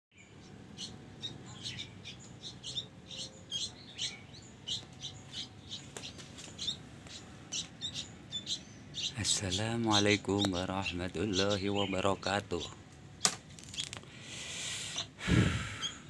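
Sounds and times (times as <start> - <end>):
young birds chirping: 0.1 - 16.0.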